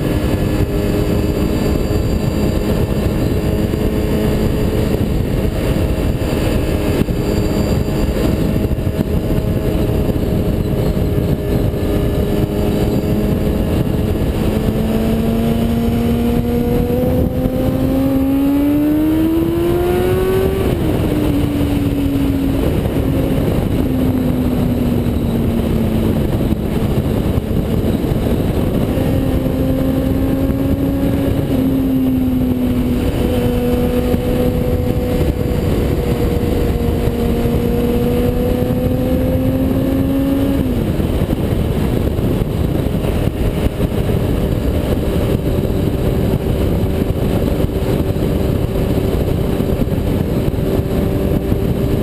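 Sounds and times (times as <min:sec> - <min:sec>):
motorcycle engine accelerating: 0:00.0 - 0:52.0
wind noise over microphone: 0:00.0 - 0:52.0.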